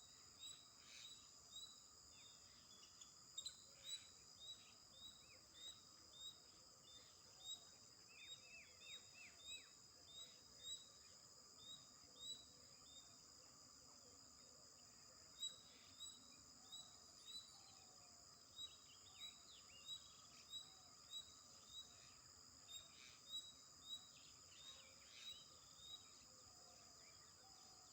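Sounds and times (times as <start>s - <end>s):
faint bird chirps: 0.0s - 13.2s, 14.9s - 27.9s.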